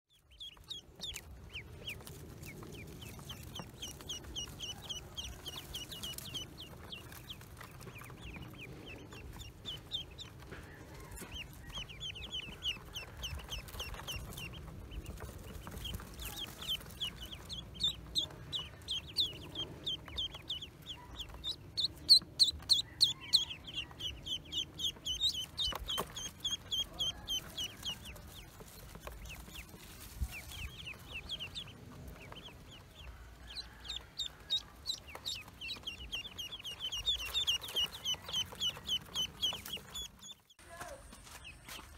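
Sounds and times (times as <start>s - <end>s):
ducklings peeping: 0.1s - 41.9s.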